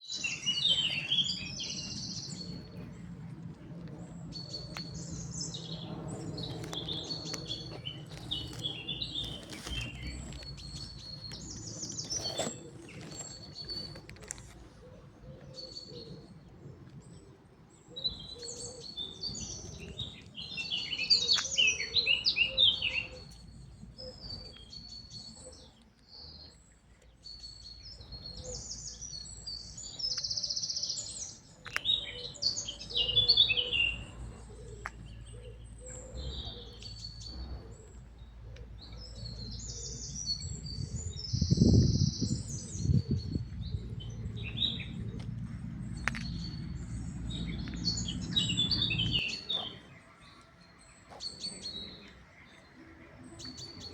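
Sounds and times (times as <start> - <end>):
birds chirping and twittering: 0.0 - 53.9.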